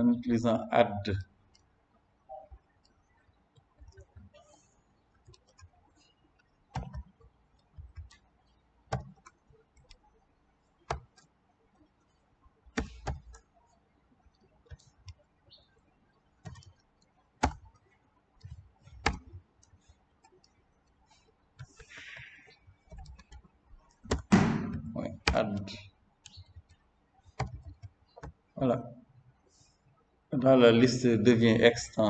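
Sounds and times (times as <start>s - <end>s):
keyboard and mouse clicks: 2.3s - 28.5s.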